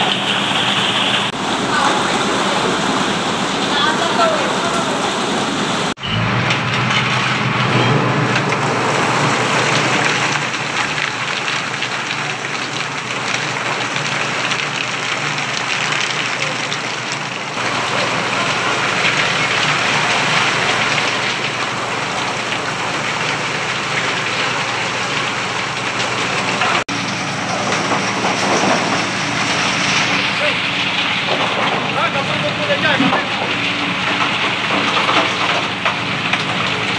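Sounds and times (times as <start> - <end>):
rushing rain-like hiss: 0.0 - 6.0, 8.3 - 36.9
truck engine running: 0.0 - 36.9.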